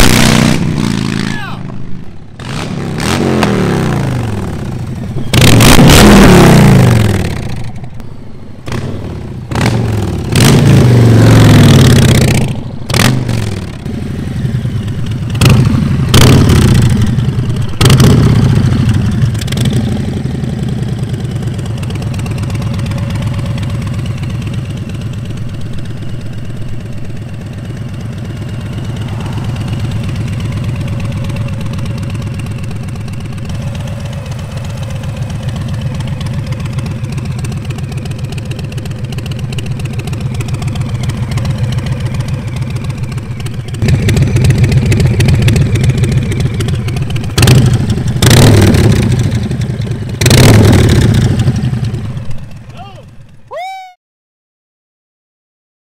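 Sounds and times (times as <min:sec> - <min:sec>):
motorcycle revving: 0:00.0 - 0:53.5
motorcycle idling: 0:00.6 - 0:05.7, 0:06.4 - 0:53.6.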